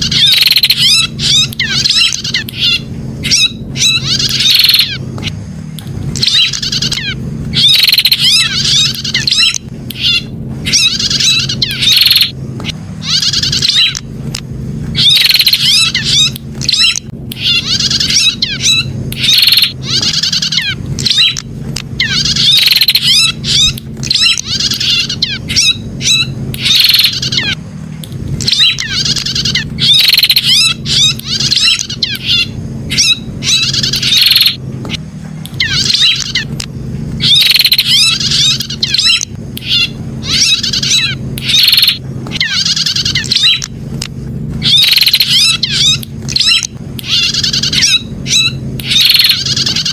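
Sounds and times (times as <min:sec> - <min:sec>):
bird chirping: 0:00.0 - 0:05.3, 0:06.2 - 0:14.1, 0:14.9 - 0:27.6, 0:28.4 - 0:36.6, 0:37.2 - 0:43.7, 0:44.6 - 0:49.9
low hum: 0:00.0 - 0:49.9.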